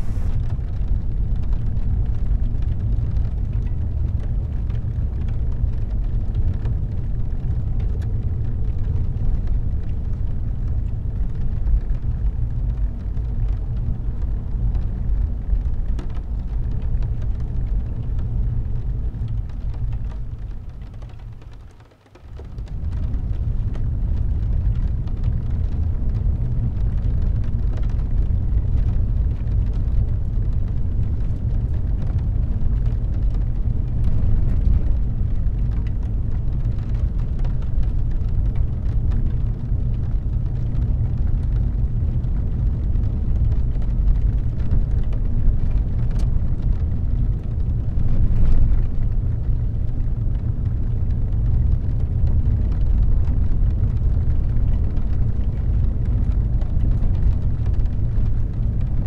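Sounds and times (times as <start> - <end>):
raindrops ticking on windshield: 0.0 - 59.0
tyres and engine rumble: 0.0 - 59.0.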